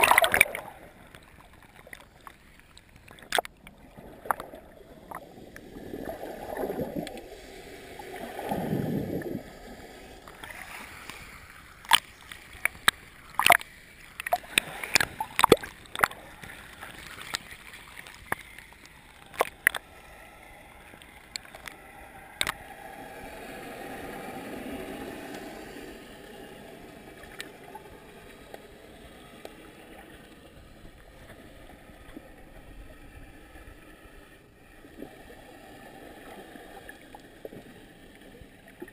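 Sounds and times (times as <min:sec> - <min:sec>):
muffled water sloshing: 0:00.0 - 0:38.9.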